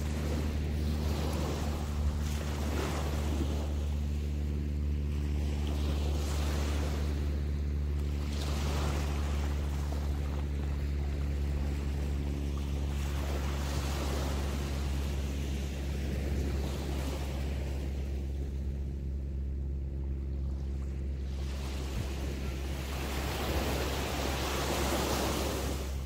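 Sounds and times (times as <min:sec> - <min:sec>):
low surf rumble: 0:00.0 - 0:26.0
small waves breaking on beach: 0:00.0 - 0:26.0.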